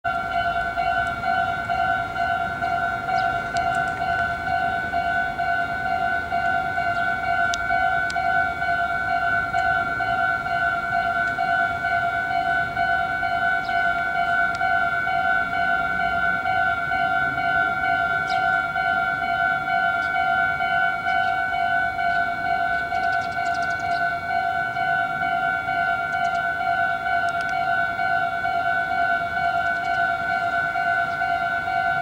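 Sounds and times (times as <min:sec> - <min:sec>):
level crossing warning bell ringing: 0:00.0 - 0:32.0.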